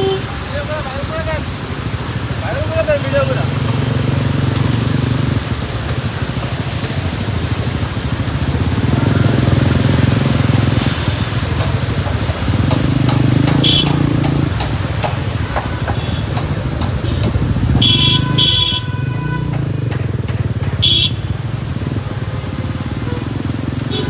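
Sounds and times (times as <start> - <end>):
street traffic: 0.0 - 24.0
engine running: 1.7 - 24.0.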